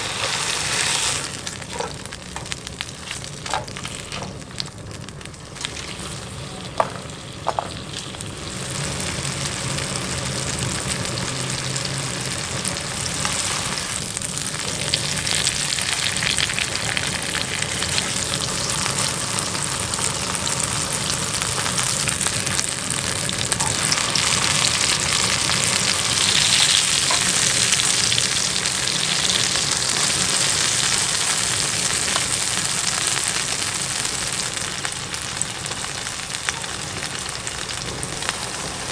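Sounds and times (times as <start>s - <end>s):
steak sizzling in frying pan: 0.0s - 38.9s.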